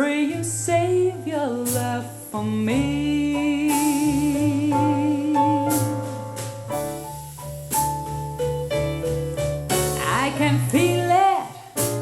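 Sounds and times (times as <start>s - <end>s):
pop band with drums and keyboard: 0.0s - 12.0s.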